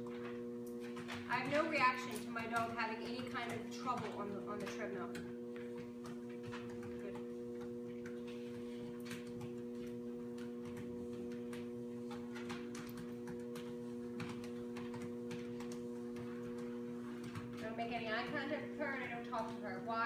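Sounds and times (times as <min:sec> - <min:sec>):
treadmill motor humming: 0:00.0 - 0:20.0.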